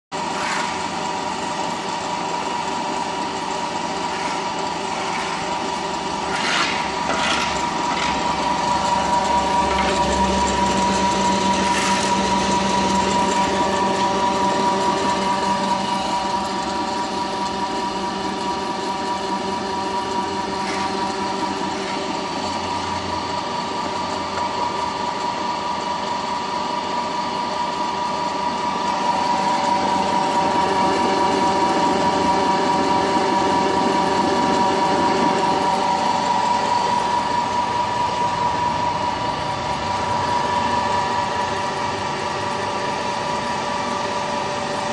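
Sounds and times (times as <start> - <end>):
pellet mill motor humming: 0.1 - 44.9.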